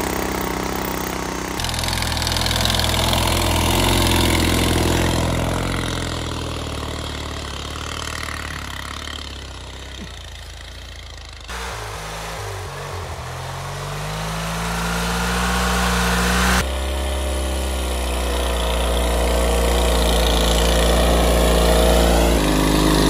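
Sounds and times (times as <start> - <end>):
lawn tractor engine revving: 0.0 - 23.0
tractor engine running loudly: 0.0 - 23.0.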